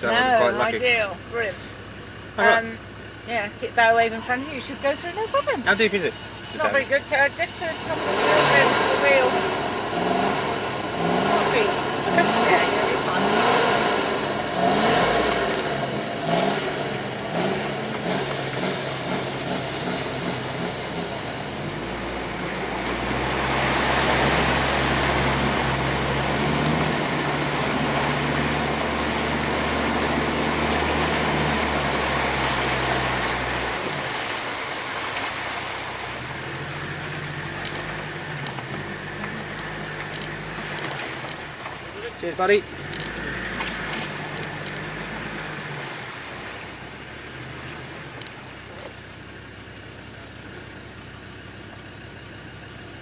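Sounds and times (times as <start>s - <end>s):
diesel engine under load: 0.0s - 53.0s
rushing wash of water: 5.8s - 49.2s.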